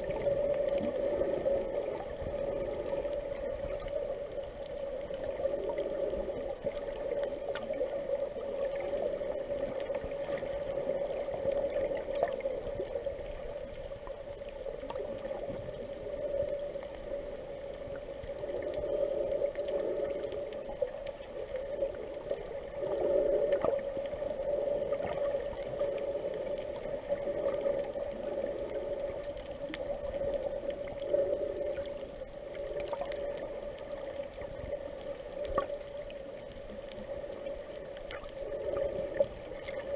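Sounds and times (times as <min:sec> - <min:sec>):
water swirling underwater: 0:00.0 - 0:39.9.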